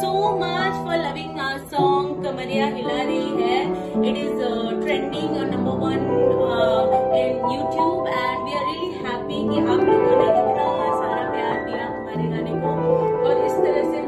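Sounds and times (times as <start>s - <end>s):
piano chords: 0.0s - 14.0s
woman singing: 0.0s - 14.0s.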